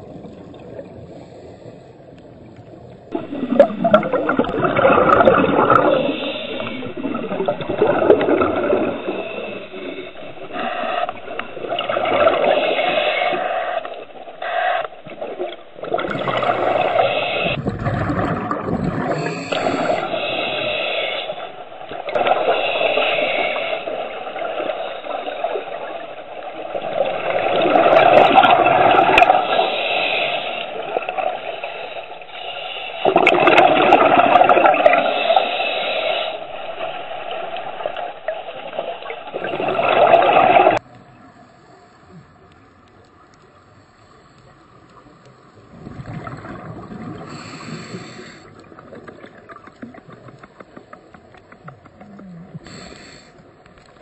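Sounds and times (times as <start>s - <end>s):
underwater regulator bubbles: 0.0s - 31.9s, 33.0s - 43.6s, 44.4s - 54.0s.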